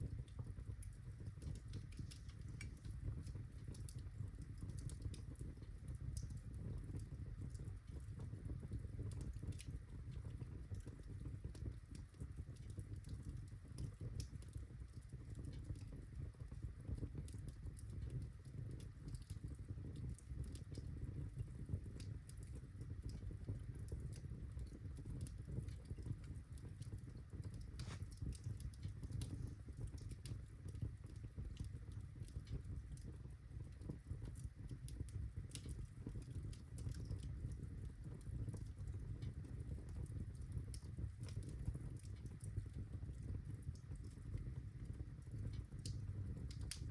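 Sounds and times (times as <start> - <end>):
fire crackling in a fireplace: 0.0 - 46.9
sharp pops and snaps: 0.2 - 8.2, 9.0 - 33.2, 33.8 - 46.9.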